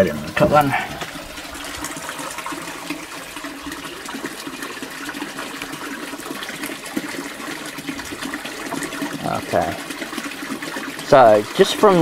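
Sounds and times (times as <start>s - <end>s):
water splashing into tank: 0.0s - 12.0s.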